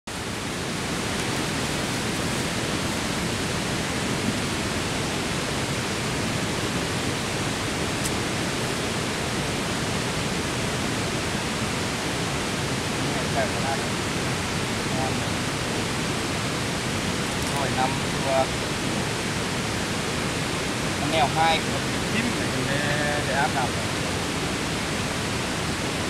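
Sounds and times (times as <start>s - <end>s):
steady outdoor hiss: 0.1s - 26.0s.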